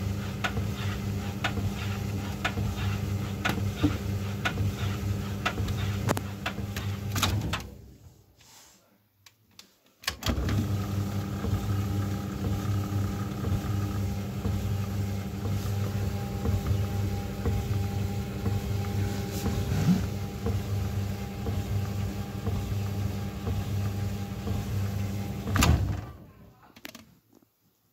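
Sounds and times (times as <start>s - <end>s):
tumble dryer running: 0.0s - 7.8s, 10.1s - 26.3s.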